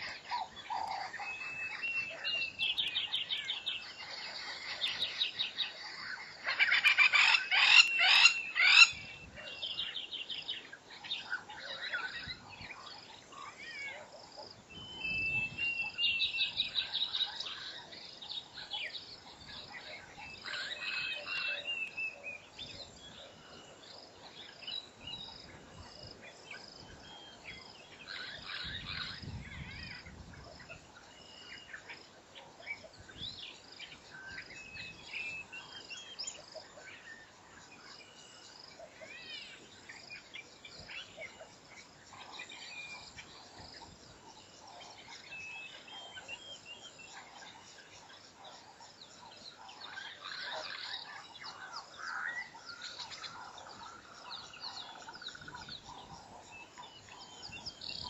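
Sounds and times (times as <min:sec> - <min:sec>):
wild birds calling and trilling: 0:00.0 - 0:58.0.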